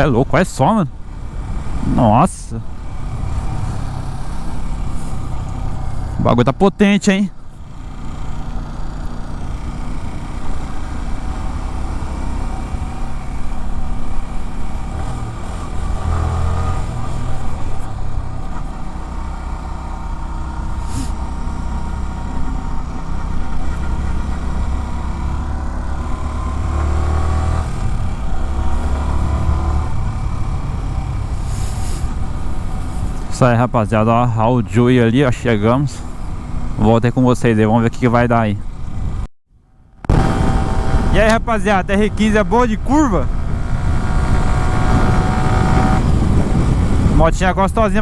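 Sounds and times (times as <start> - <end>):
motorcycle engine running: 0.0 - 33.4, 34.0 - 37.1, 38.6 - 47.4
wind and road noise: 0.0 - 48.0.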